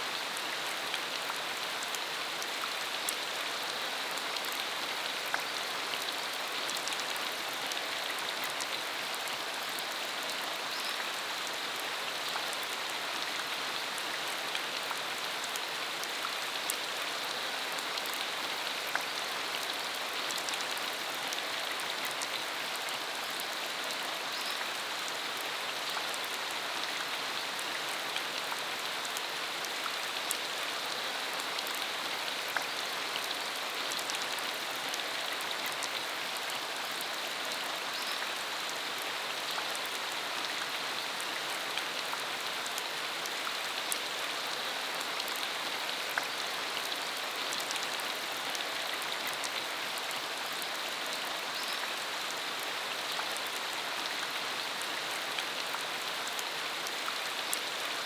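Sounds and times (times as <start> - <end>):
steady rain on dirt road: 0.0 - 58.0.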